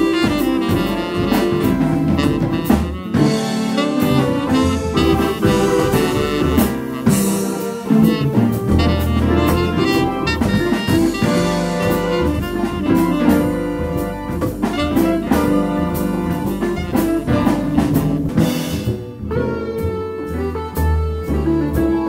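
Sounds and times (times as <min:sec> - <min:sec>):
drums keeping beat: 0:00.0 - 0:22.0
instrumental band music: 0:00.0 - 0:22.0.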